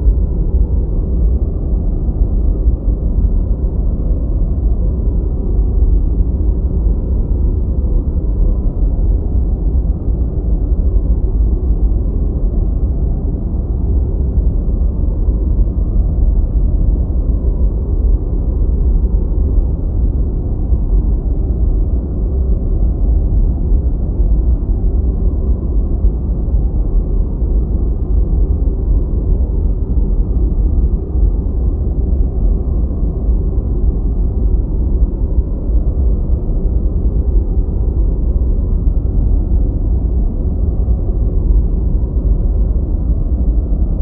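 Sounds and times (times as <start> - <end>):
deep white noise: 0.0 - 44.0.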